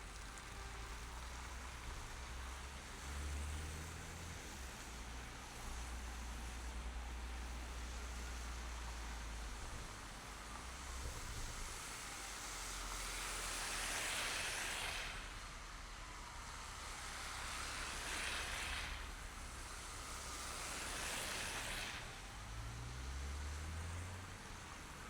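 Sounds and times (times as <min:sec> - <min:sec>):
tyres hissing on road: 0:00.0 - 0:25.0.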